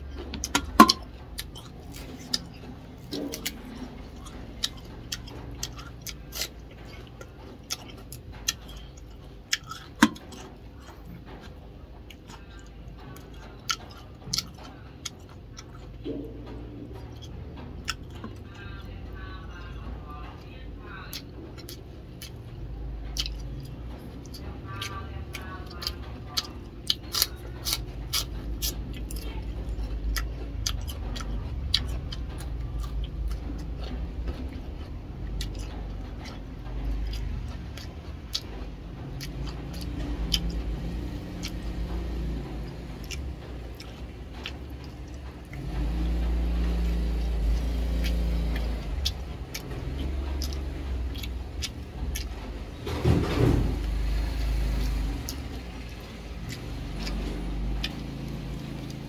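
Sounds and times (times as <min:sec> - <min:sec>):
crunching and chewing cucumber: 0:00.0 - 0:59.0.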